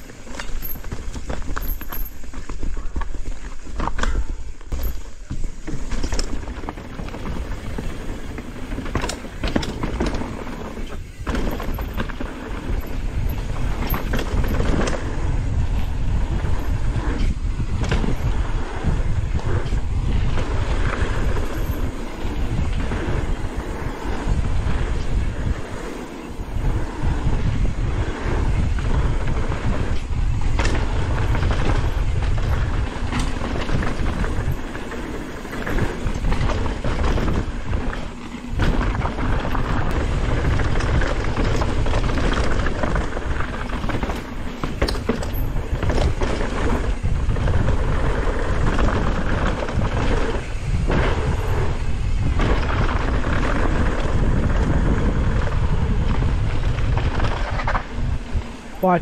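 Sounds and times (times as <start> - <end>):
bike rattling: 0.0 - 59.0
bike tyres on dirt: 0.0 - 59.0
wind rumble on microphone: 0.0 - 59.0.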